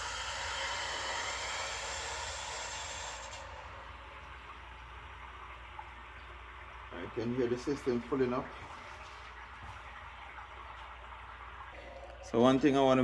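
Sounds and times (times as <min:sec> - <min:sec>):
water rushing through pipe: 0:00.0 - 0:13.0.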